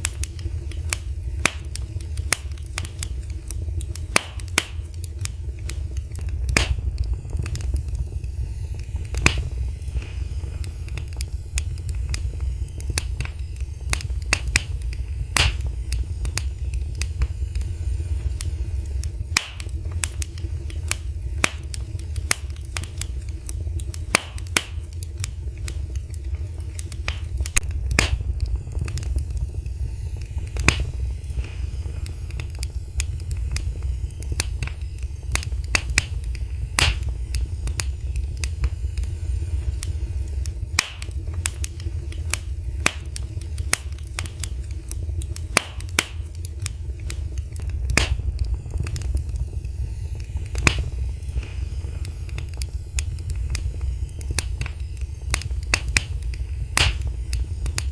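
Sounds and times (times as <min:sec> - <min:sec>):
fireplace fire crackling and popping: 0:00.0 - 0:57.9
low rumble of burning: 0:00.0 - 0:57.9.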